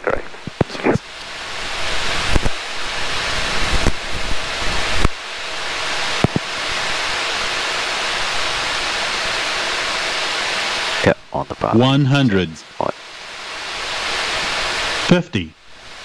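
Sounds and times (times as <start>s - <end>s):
rushing airflow in cockpit: 0.2s - 16.0s.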